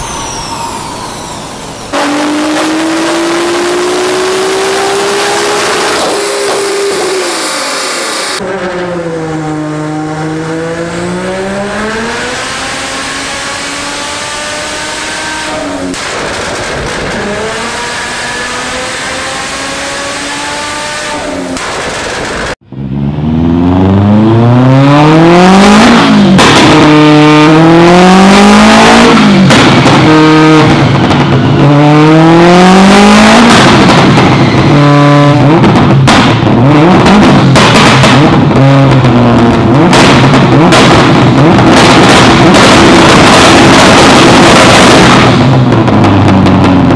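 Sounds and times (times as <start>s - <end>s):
car engine on dynamometer: 0.0s - 46.9s
car engine revving hard: 0.0s - 46.9s.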